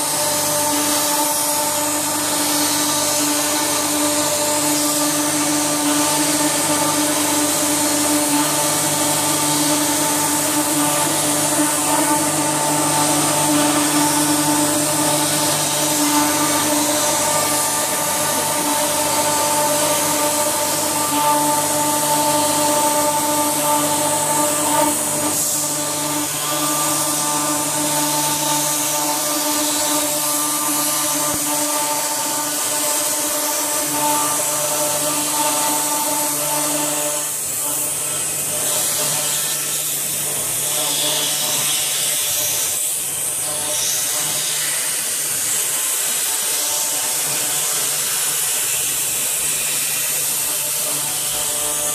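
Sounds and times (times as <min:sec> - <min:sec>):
cnc router hissing: 0:00.0 - 0:51.9
cnc router whine: 0:00.0 - 0:51.9.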